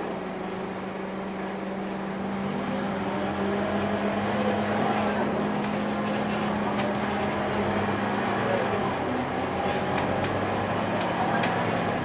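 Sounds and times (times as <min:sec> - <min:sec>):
bus engine and drivetrain hum: 0:00.0 - 0:12.0
road noise: 0:00.0 - 0:12.0.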